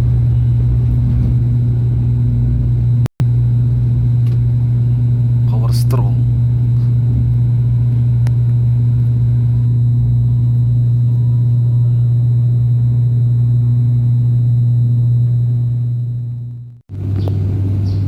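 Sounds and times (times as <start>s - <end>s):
turboprop cabin drone: 0.0s - 18.0s.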